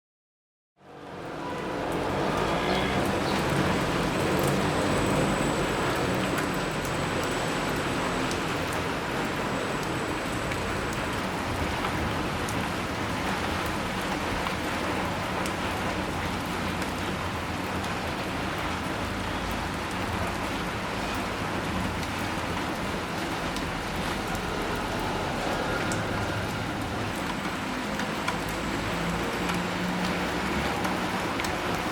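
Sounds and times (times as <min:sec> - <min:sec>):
steady rain falling: 0:00.8 - 0:31.9
raindrops ticking: 0:01.2 - 0:31.9.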